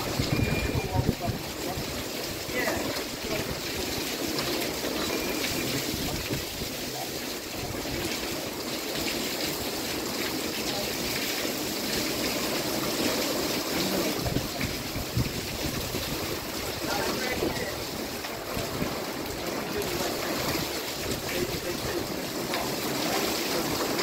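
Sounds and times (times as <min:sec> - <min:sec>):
heavy rain falling: 0:00.0 - 0:24.0
runoff splashing onto pavement: 0:00.0 - 0:24.0.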